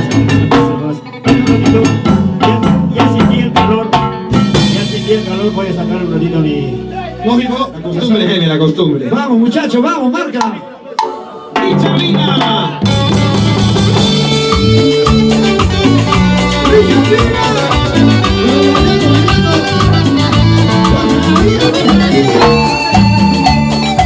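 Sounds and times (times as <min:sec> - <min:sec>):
live band playing dance music: 0:00.0 - 0:08.8, 0:10.3 - 0:24.0.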